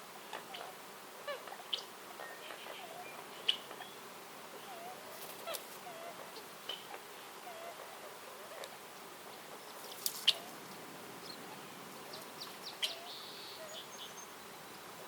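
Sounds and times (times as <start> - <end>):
background hiss: 0.0 - 15.0
birds chirping: 1.3 - 15.0.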